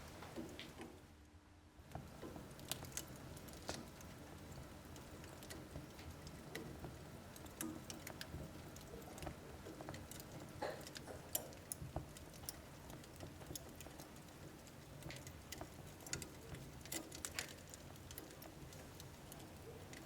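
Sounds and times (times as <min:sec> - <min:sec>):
wood fire crackling and popping: 0:00.0 - 0:01.0, 0:01.8 - 0:20.0
low flame noise: 0:01.8 - 0:20.0.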